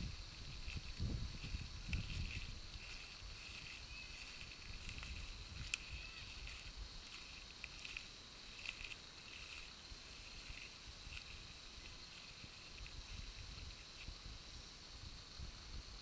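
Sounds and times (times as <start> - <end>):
wind rumble on microphone: 0.0 - 8.0, 8.8 - 16.0
footsteps in dry grass: 0.0 - 14.2
faint high hiss: 0.0 - 16.0.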